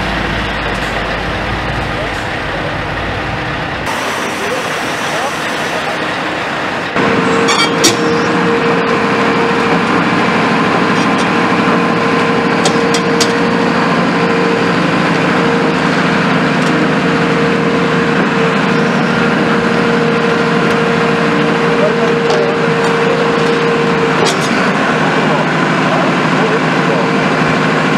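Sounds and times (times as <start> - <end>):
steady tone: 0.0 - 26.4
excavator diesel engine running: 0.0 - 27.9.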